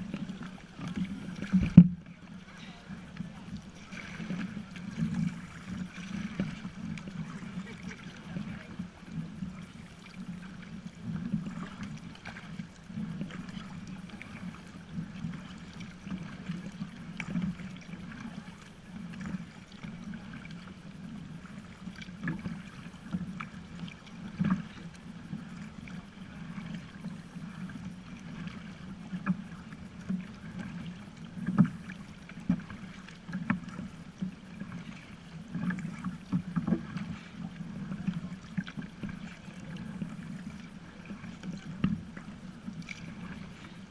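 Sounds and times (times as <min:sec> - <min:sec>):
paddle knocking on boat: 0:00.0 - 0:43.9
paddle strokes: 0:00.0 - 0:43.9
water sloshing against hull: 0:00.0 - 0:43.9.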